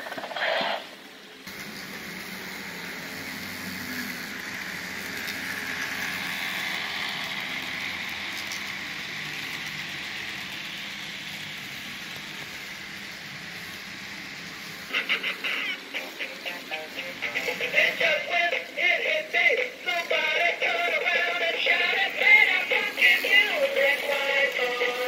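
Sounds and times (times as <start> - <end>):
model train rumbling: 0.1 - 25.0.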